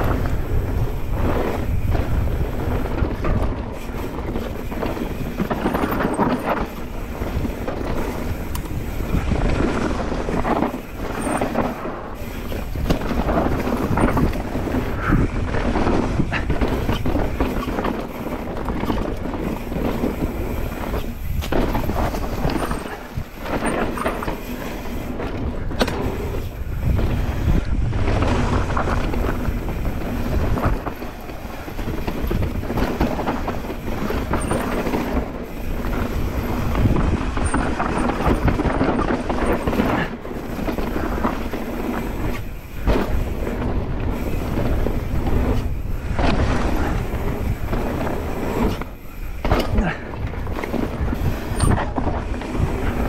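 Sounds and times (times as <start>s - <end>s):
bike tyres rattling on rough ground: 0.0s - 53.0s
wind buffeting microphone: 0.0s - 53.0s.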